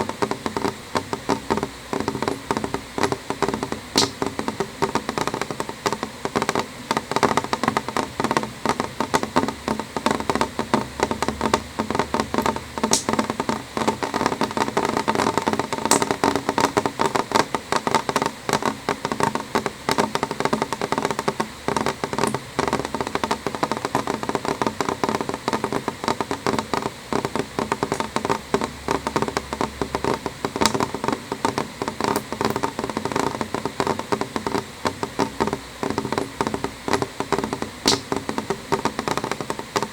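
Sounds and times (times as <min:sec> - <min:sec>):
rain drops tapping on glass: 0:00.0 - 0:39.9
steady hiss of rain: 0:00.0 - 0:39.9.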